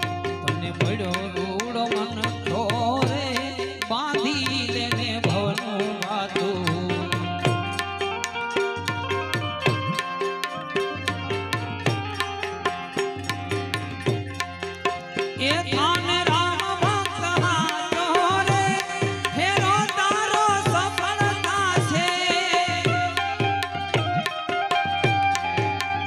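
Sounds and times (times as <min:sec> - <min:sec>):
harmonium drone: 0:00.0 - 0:26.0
melody instrument with sliding notes: 0:00.0 - 0:26.0
tabla rhythm: 0:00.0 - 0:26.0.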